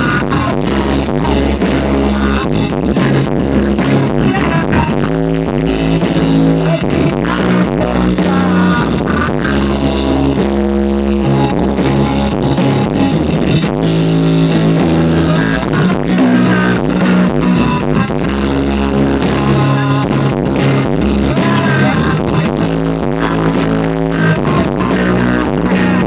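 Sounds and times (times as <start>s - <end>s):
song with guitar and bass: 0.0s - 26.0s.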